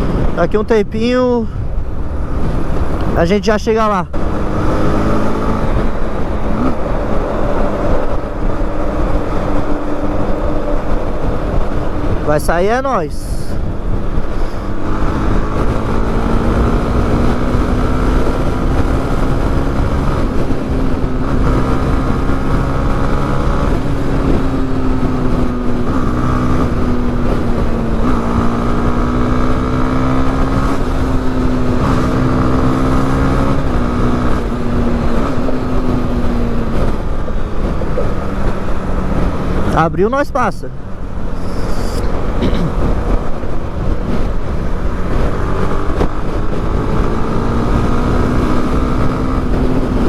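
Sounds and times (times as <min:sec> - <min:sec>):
wind and road noise: 0:00.0 - 0:50.0
motorcycle engine running: 0:04.0 - 0:12.6, 0:13.2 - 0:50.0.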